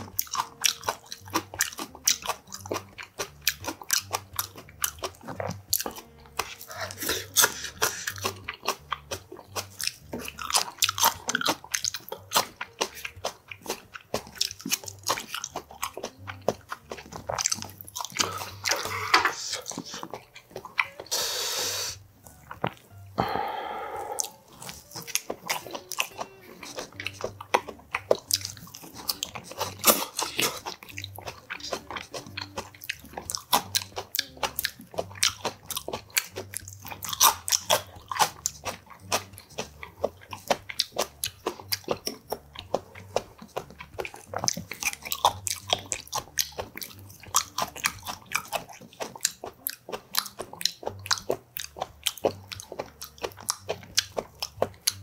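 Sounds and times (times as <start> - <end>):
wet chewing mouth clicks: 0.0 - 55.0.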